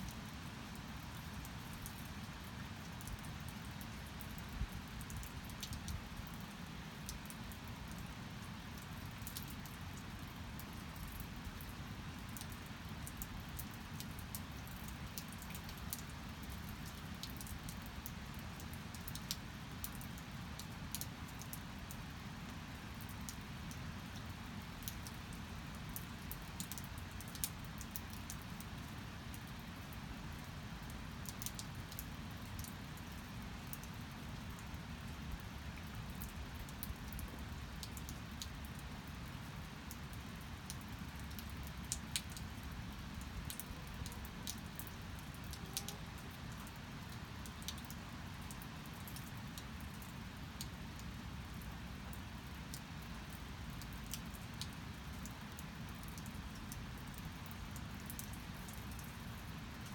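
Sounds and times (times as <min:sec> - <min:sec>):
rain falling: 0:00.0 - 0:59.9
sharp ticks and drips: 0:00.0 - 0:59.9.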